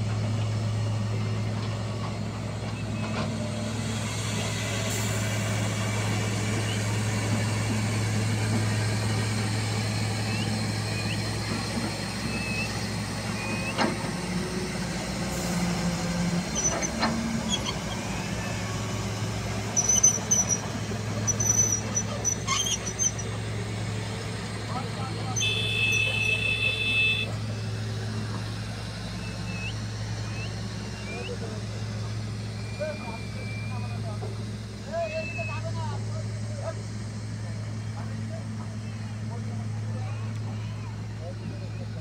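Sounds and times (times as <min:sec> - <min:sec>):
diesel excavator engine droning: 0:00.0 - 0:42.0.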